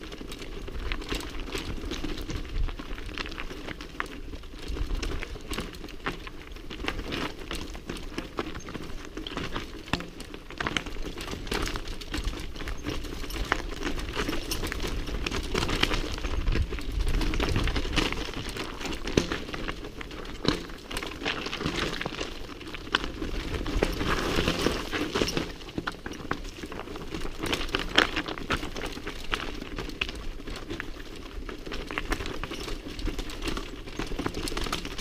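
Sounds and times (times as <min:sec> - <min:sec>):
bike rattling: 0:00.0 - 0:35.0
bike tyres crunching over stones: 0:00.0 - 0:35.0.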